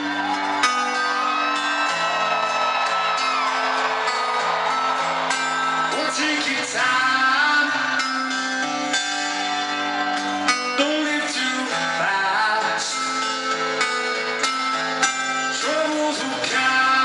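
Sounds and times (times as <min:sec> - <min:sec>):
acoustic guitar strumming: 0:00.0 - 0:17.0
live rock music: 0:00.0 - 0:17.0.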